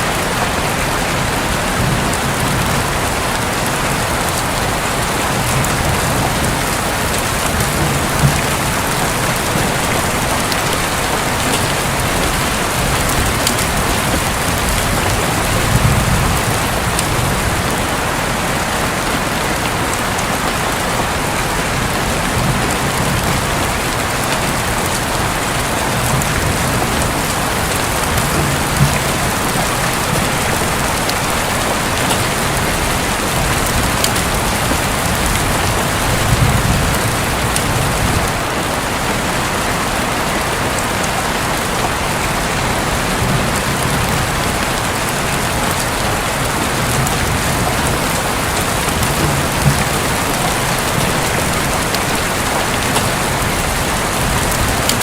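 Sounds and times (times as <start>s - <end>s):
rain on a roof: 0.0s - 55.0s
distant thunder rumble: 0.1s - 38.6s, 41.6s - 55.0s.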